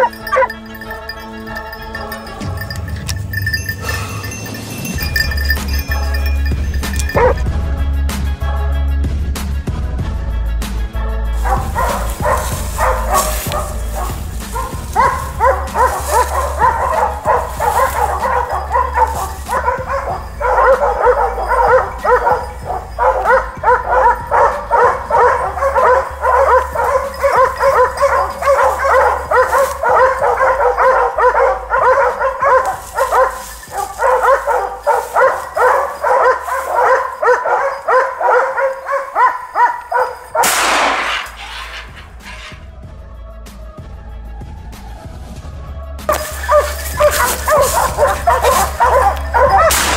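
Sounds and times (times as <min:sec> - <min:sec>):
dogs barking rapidly: 0:00.0 - 0:07.5, 0:11.4 - 0:42.7, 0:46.1 - 0:49.9.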